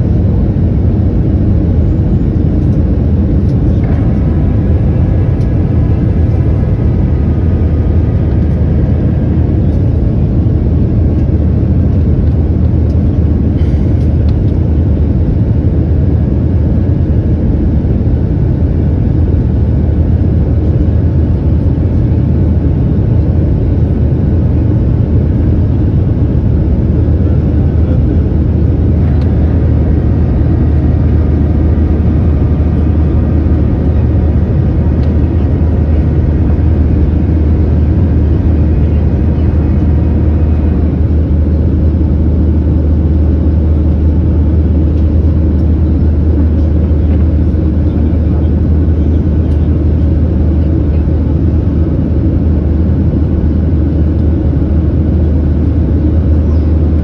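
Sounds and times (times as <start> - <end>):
jet airliner cabin drone: 0.0 - 57.0.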